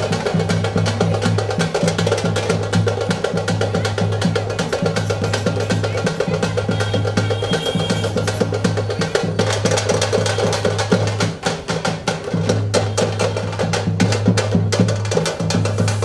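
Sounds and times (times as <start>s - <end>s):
frame drums beaten with sticks: 0.0s - 16.0s.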